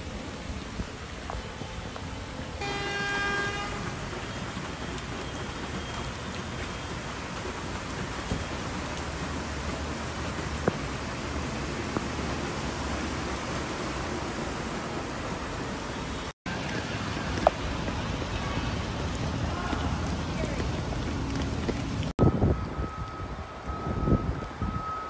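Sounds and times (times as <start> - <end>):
heavy rain on a flooded street: 0.0 - 25.0.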